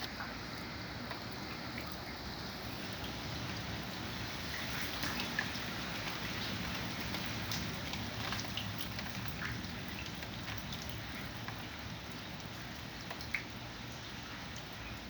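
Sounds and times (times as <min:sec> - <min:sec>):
raindrops ticking nearby: 0:00.0 - 0:15.0
steady rain falling: 0:00.0 - 0:15.0.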